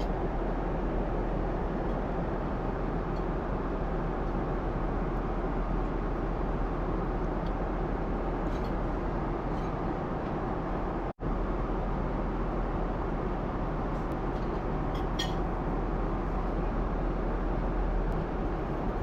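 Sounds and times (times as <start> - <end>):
jet airliner cabin noise: 0.0 - 19.0.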